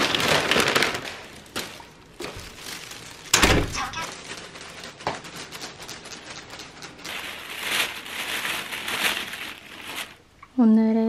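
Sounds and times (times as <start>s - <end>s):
plastic bag rustling: 0.0s - 10.4s.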